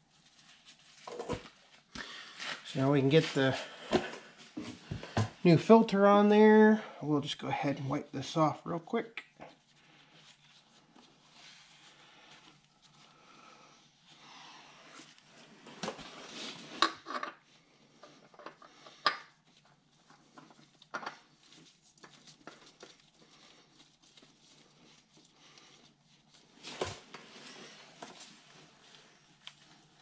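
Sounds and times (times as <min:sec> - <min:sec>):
rustling of hand work: 0:00.0 - 0:30.0.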